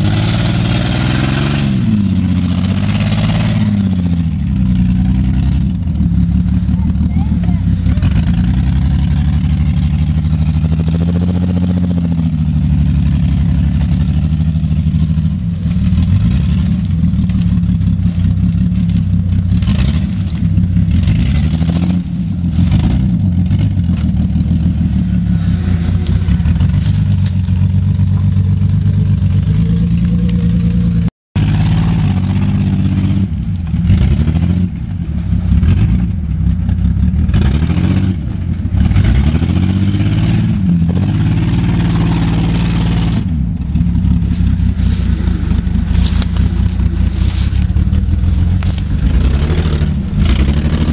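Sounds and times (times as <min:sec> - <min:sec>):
vehicle engine revving: 0:00.0 - 0:50.9.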